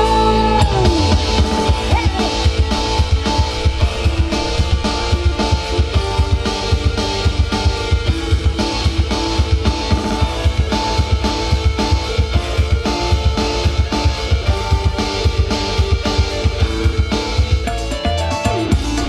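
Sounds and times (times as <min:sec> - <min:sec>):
band music with drums and guitar: 0:00.0 - 0:19.0.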